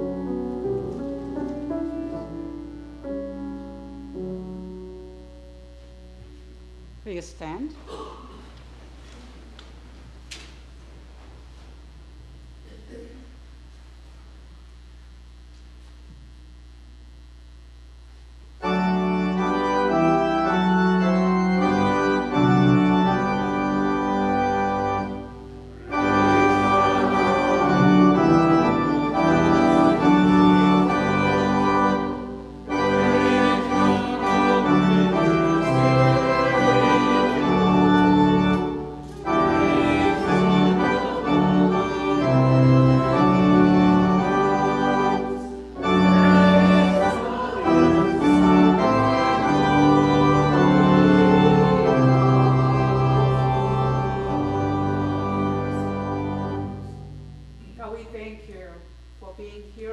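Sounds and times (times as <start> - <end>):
church organ playing chords: 0.0 - 7.4, 18.5 - 59.2
low electrical hum: 0.0 - 59.9.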